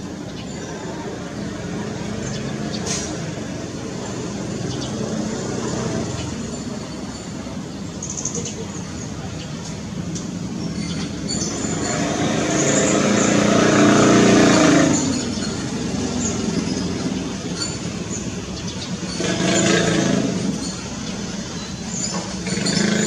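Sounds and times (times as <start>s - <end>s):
vehicles passing: 0.0s - 23.0s.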